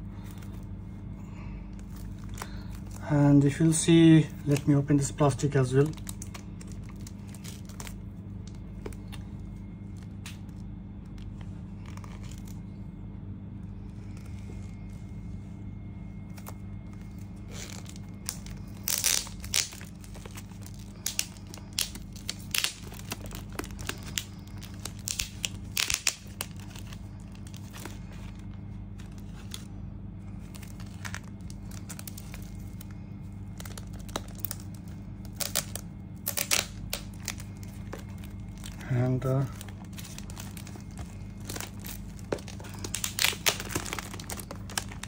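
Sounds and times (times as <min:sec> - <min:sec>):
steady low hum: 0:00.0 - 0:45.0
plastic bag crinkling and tearing: 0:01.4 - 0:12.8, 0:13.7 - 0:45.0.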